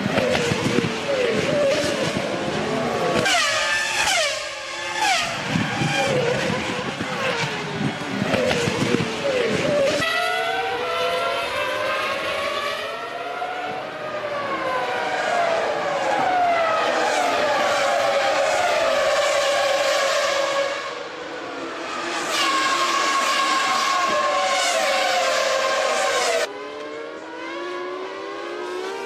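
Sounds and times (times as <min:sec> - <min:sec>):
racing car engines at high revs: 0:00.0 - 0:29.0.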